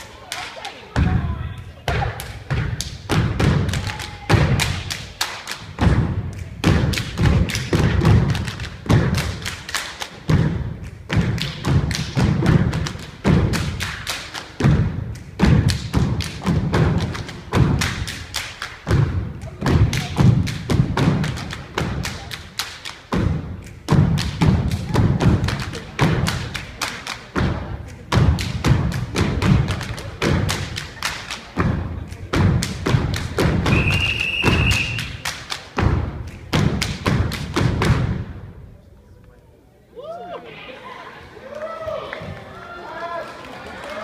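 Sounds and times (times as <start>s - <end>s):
stomping and clapping: 0.0s - 38.6s.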